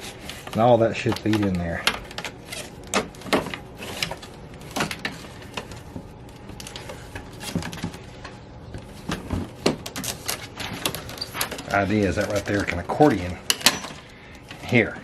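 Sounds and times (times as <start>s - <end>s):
plastic scraping: 0.0s - 15.0s.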